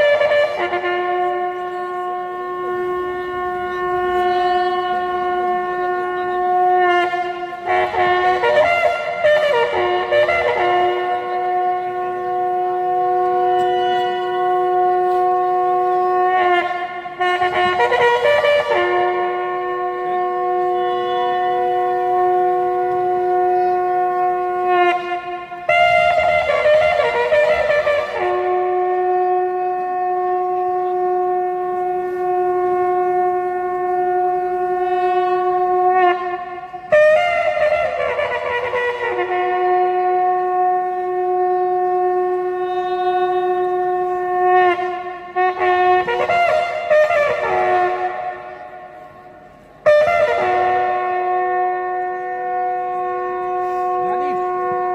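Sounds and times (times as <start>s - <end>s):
military band wind instruments: 0.0s - 54.9s.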